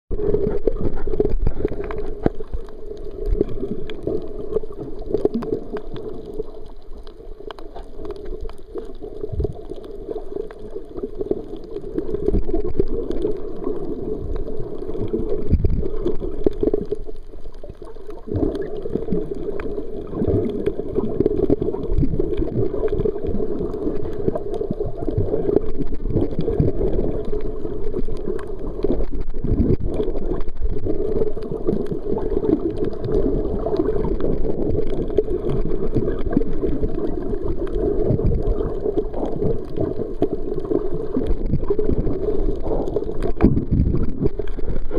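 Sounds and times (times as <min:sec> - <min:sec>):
faint underwater clicks and knocks: 0:00.1 - 0:44.9
underwater water wash: 0:00.1 - 0:44.9.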